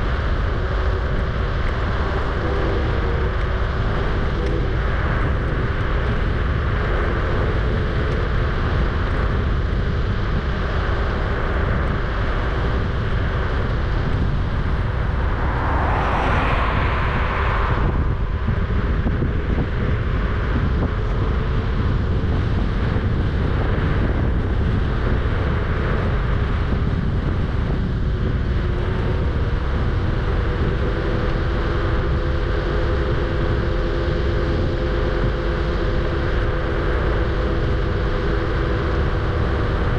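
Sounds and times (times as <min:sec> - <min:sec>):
electric motor whine: 0:00.0 - 0:39.9
wind and road noise: 0:00.0 - 0:39.9.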